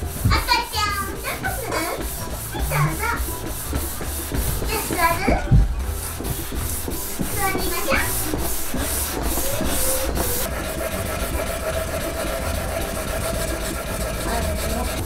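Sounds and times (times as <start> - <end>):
sandpaper rubbing on wood: 0.0 - 15.0.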